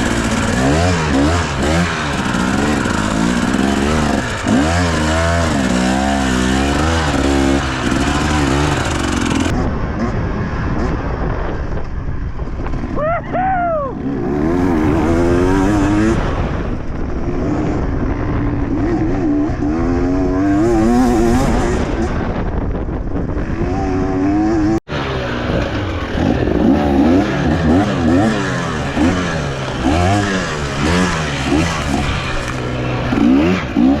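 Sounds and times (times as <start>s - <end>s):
dirt bike engine revving: 0.0s - 11.8s, 12.5s - 34.0s.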